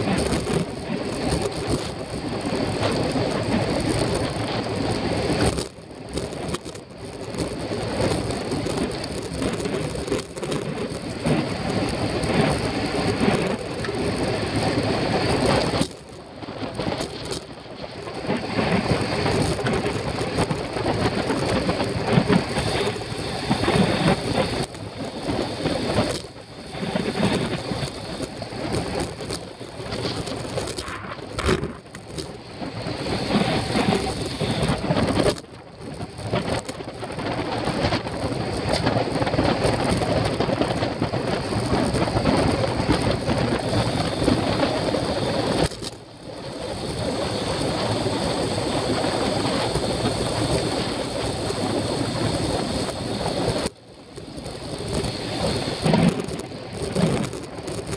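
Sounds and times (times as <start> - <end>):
tyre and road noise: 0.0 - 57.9
wind rushing over microphone: 0.0 - 57.9.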